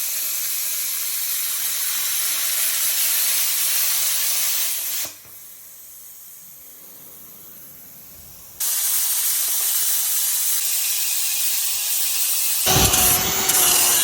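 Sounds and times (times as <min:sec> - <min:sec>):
plasma cutter hissing: 0:00.4 - 0:06.2, 0:07.5 - 0:14.0.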